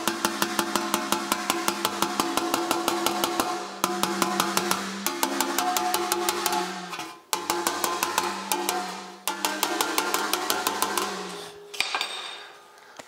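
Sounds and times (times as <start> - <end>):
hammer tapping sheet metal: 0.0 - 12.6.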